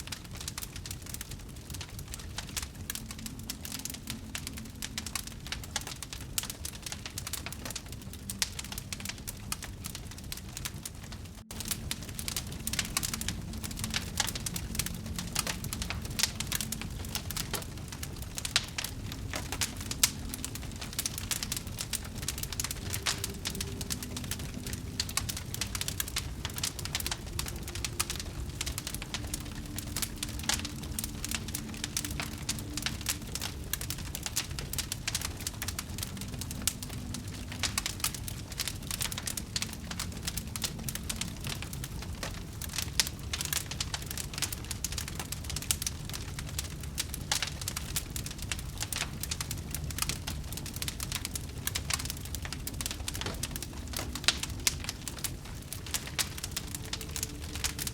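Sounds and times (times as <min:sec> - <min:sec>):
low rumble of flames: 0:00.0 - 0:57.9
wood fire crackling: 0:00.0 - 0:57.9.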